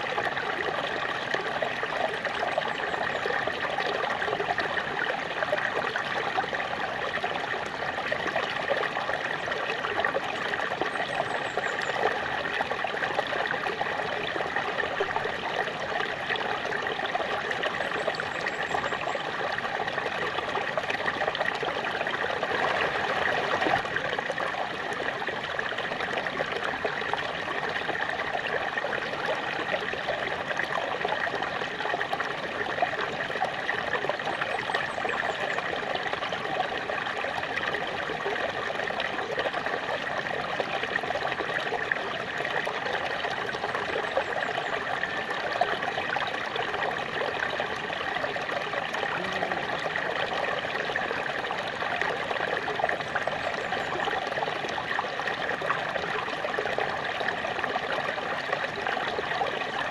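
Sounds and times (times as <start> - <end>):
small waterfall rushing: 11.6 - 59.9.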